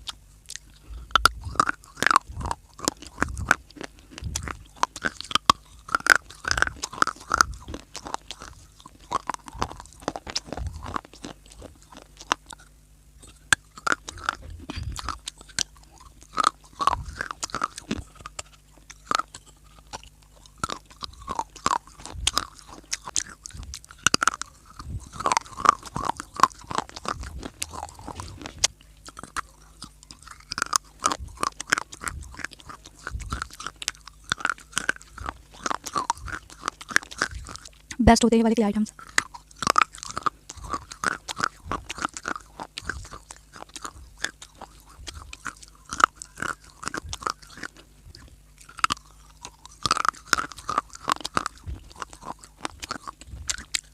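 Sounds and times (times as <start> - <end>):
person chewing crunchy clay: 0.0 - 38.0, 38.8 - 53.9.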